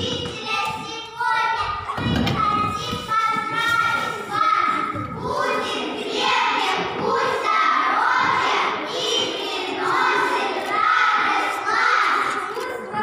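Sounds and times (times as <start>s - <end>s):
children singing in unison: 1.5s - 13.0s.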